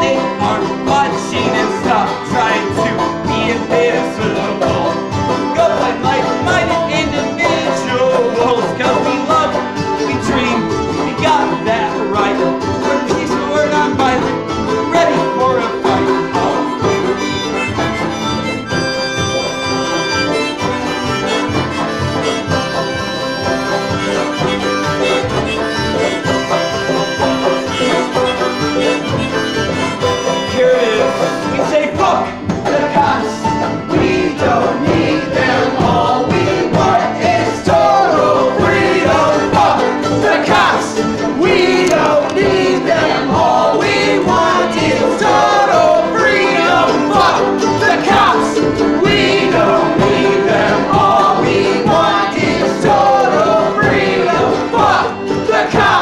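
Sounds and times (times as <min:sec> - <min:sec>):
accordion: 0:00.0 - 0:56.0
acoustic guitar: 0:00.0 - 0:56.0
banjo: 0:00.0 - 0:56.0
bluegrass band playing: 0:00.0 - 0:56.0.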